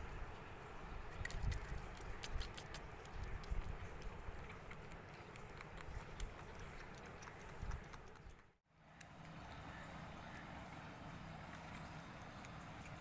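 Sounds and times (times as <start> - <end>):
kitten lapping milk: 1.1 - 9.8, 11.2 - 13.0.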